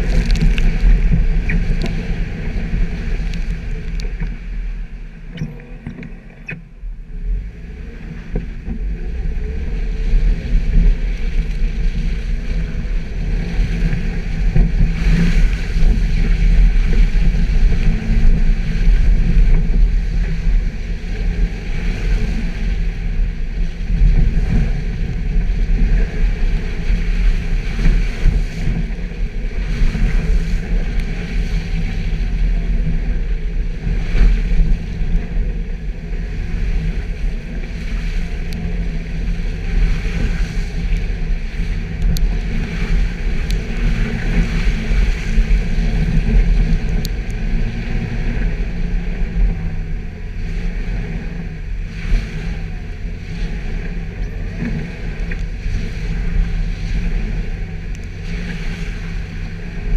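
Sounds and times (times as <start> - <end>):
car engine rumble off-road: 0.0 - 59.9.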